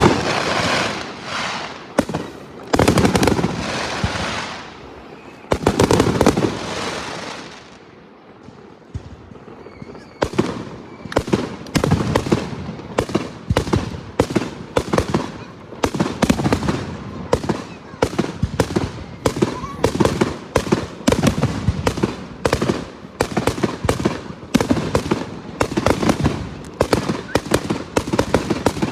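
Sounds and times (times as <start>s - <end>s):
fireworks bangs: 0.0s - 28.9s
fireworks sharp cracks: 0.0s - 28.9s.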